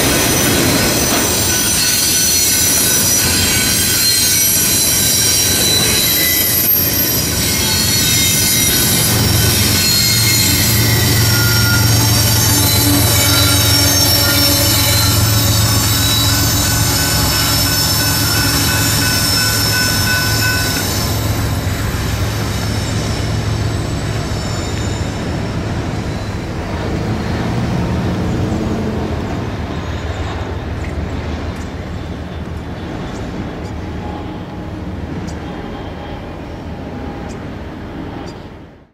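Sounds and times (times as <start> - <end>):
train wheels squealing: 0.0 - 27.4, 28.7 - 38.6
train low rumble: 0.0 - 38.9.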